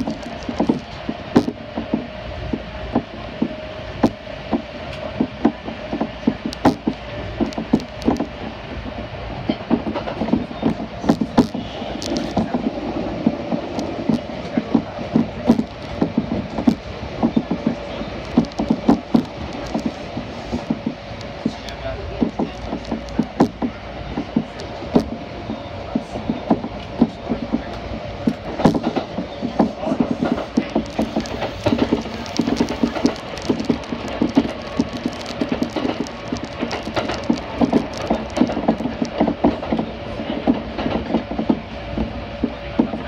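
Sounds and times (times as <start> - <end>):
wheels clicking over track: 0.0 - 8.5, 9.5 - 43.0
electric train hum and rumble: 0.0 - 43.0.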